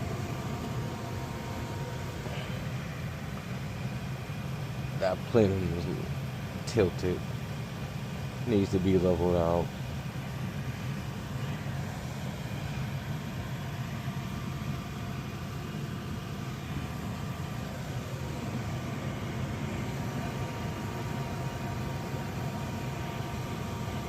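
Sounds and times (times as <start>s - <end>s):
hvac unit humming: 0.0s - 24.0s.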